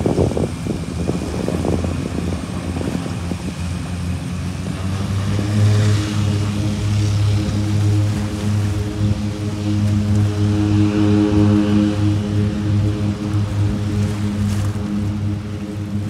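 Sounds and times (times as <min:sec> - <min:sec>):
propeller engine drone: 0:00.0 - 0:16.0.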